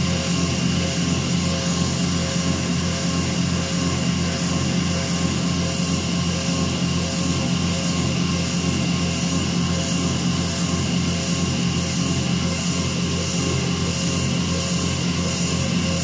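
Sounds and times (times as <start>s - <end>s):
mill spindle machining drone: 0.0s - 16.0s.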